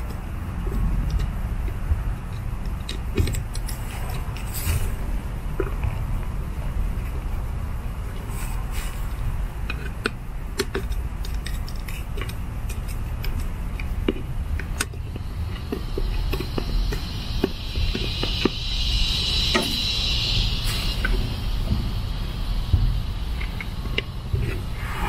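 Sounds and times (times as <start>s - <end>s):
high hiss: 0.0s - 25.0s
low steady rumble: 0.0s - 25.0s.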